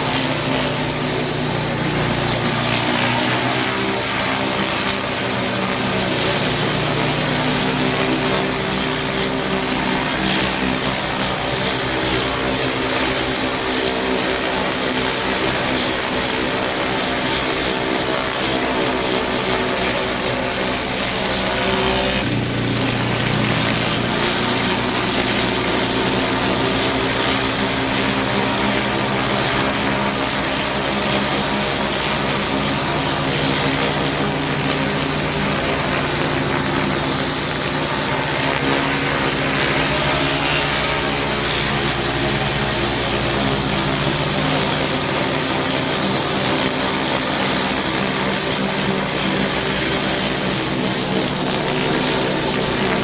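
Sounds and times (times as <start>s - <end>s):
high-pressure water spraying: 0.0s - 53.0s
pressure washer engine running: 0.0s - 53.0s.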